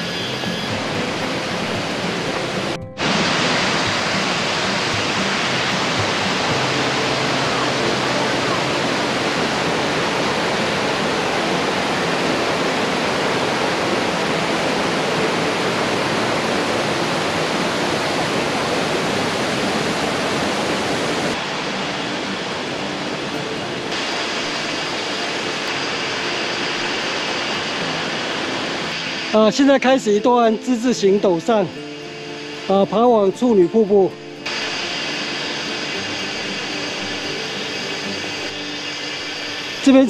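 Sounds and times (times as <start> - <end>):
creek rushing over boulders: 0.0 - 40.0.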